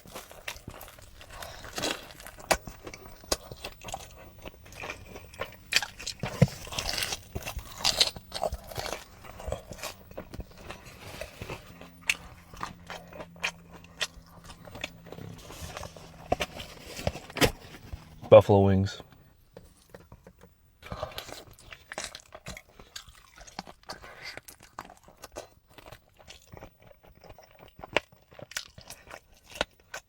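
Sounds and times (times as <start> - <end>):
crunchy bites and chewing: 0.0 - 18.2, 19.6 - 30.0.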